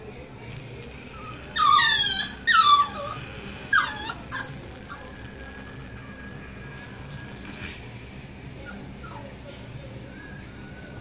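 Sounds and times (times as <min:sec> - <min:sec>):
puppy whining: 0:01.0 - 0:07.8, 0:08.5 - 0:11.0.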